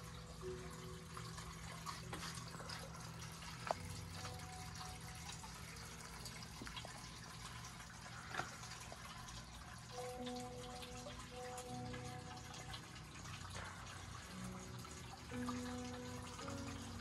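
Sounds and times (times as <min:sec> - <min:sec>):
water trickling and dripping: 0:00.0 - 0:17.0.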